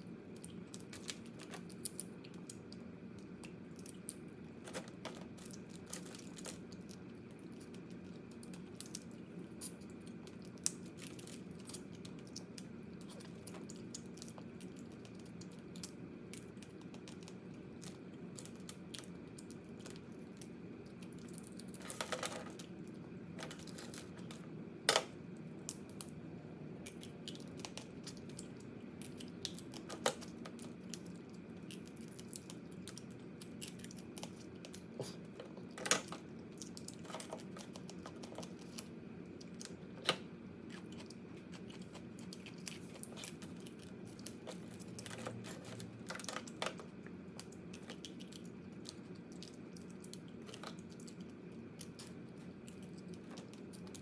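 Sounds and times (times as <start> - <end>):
crab shell cracking and crunching: 0.2 - 26.2, 26.8 - 54.0.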